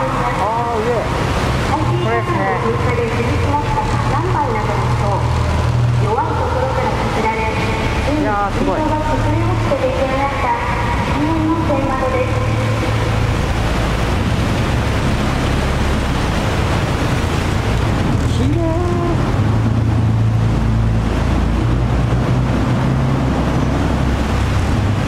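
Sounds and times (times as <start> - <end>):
boat engine humming: 0.0 - 25.0
rushing water: 0.0 - 25.0.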